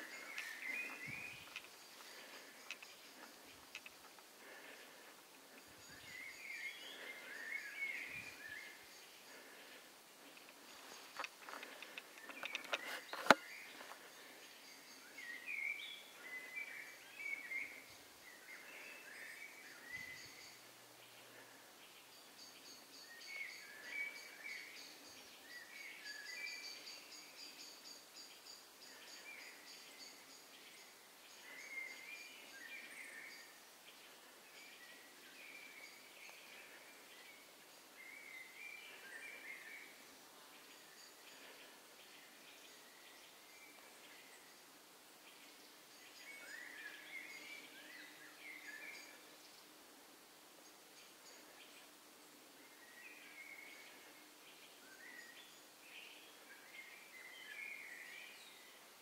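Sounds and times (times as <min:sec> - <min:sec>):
birds singing: 0:00.0 - 0:59.0.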